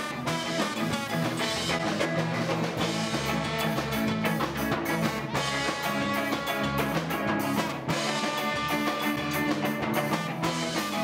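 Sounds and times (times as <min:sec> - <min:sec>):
ska band playing live: 0:00.0 - 0:11.0
trombone and saxophone horns: 0:00.0 - 0:11.0.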